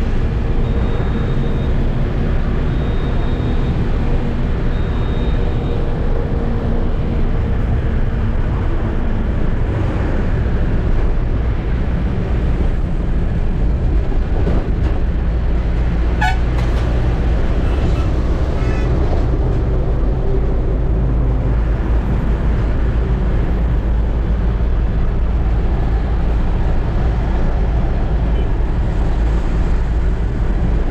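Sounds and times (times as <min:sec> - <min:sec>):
road noise: 0:00.0 - 0:30.9.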